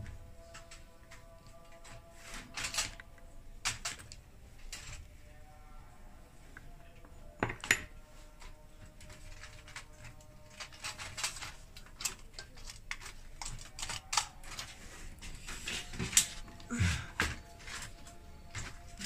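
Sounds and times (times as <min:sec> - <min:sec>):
metal parts clicking and clinking: 0:00.4 - 0:05.0, 0:07.4 - 0:19.0.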